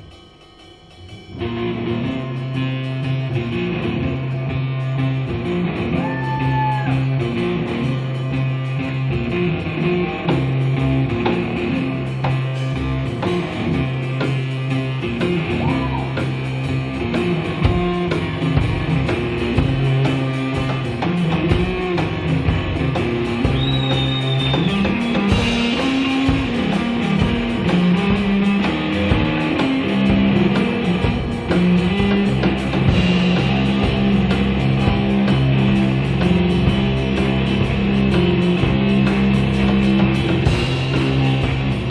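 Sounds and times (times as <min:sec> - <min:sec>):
bass guitar: 0:00.0 - 0:41.9
drum kit: 0:00.0 - 0:41.9
guitars: 0:00.0 - 0:41.9.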